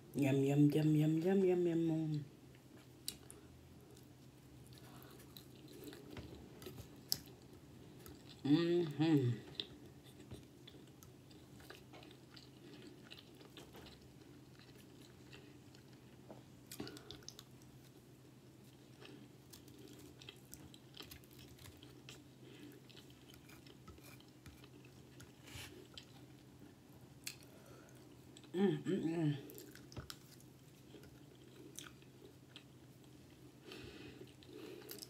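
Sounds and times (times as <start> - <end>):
person chewing fried food: 2.6 - 8.4, 9.4 - 28.5, 29.5 - 35.0.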